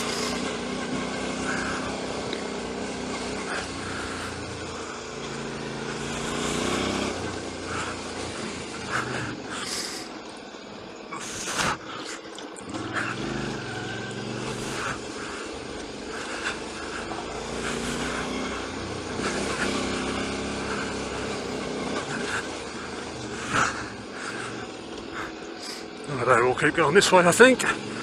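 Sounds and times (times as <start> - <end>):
motorcycle engine revving: 0.0 - 28.0
tyres on gravel: 0.0 - 28.0.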